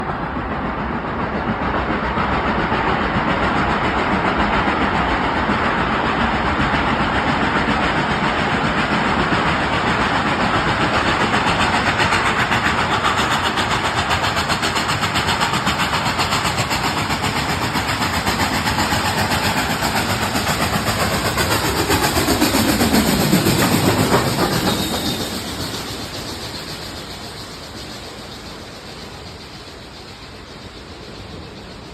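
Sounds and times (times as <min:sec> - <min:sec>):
steam hissing: 0:00.0 - 0:31.9
steam locomotive chuffing: 0:00.0 - 0:31.9.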